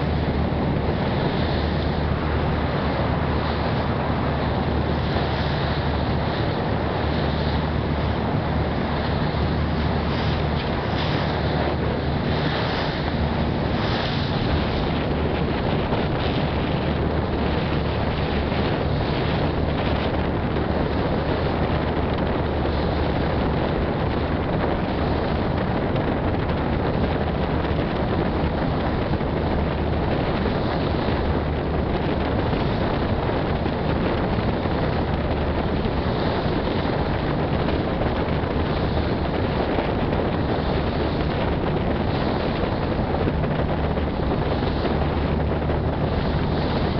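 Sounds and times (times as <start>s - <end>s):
ferry engine drone: 0.0s - 46.9s
water rushing along hull: 0.0s - 46.9s
wind buffeting microphone: 0.0s - 46.9s.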